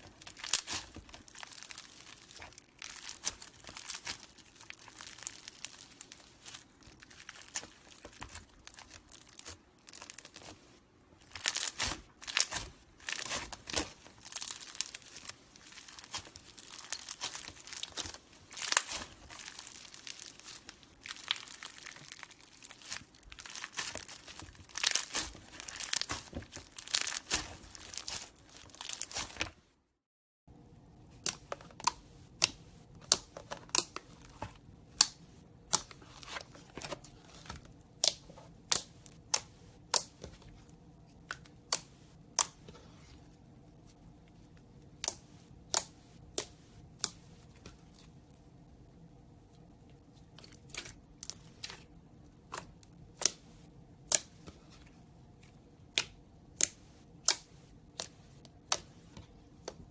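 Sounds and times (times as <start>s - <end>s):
slime crackling and crinkling: 0.0s - 29.7s, 31.0s - 48.8s, 49.4s - 59.9s.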